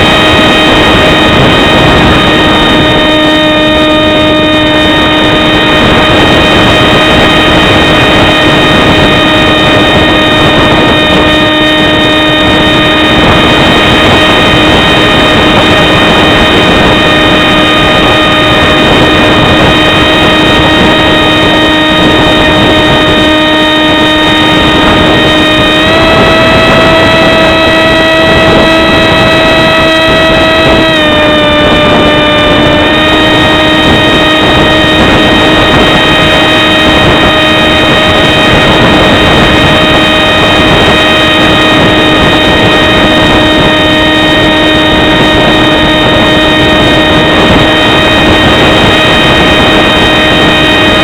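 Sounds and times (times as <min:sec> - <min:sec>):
model aircraft motor whine: 0:00.0 - 0:51.0
wind noise on microphone: 0:00.0 - 0:51.0.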